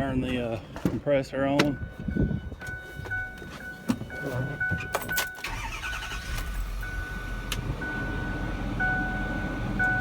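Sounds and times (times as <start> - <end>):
truck engine cranking and idling: 1.7 - 10.0.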